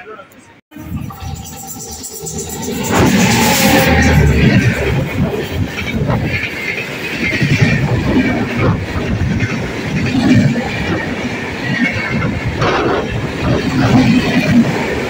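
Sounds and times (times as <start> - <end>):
train wheels rumbling and rattling: 0.8 - 15.0.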